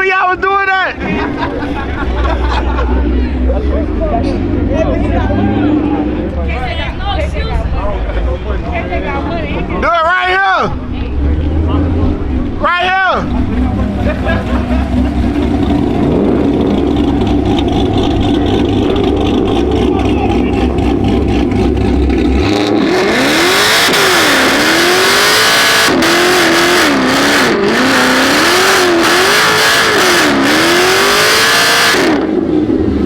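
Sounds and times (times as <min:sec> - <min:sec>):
car engine revving: 0:00.9 - 0:33.0.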